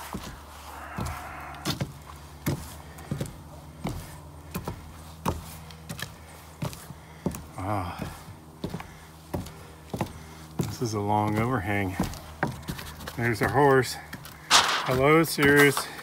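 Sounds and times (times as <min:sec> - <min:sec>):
footsteps on a roof: 0:00.0 - 0:16.0.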